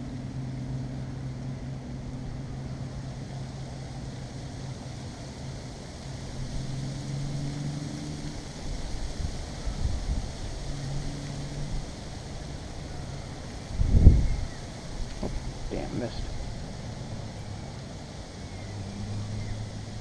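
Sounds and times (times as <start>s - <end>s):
light hiss: 0.0s - 20.0s.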